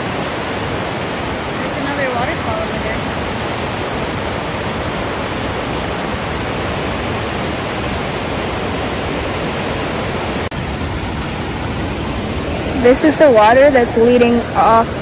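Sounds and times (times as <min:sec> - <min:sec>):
fast-flowing creek water: 0:00.0 - 0:15.0.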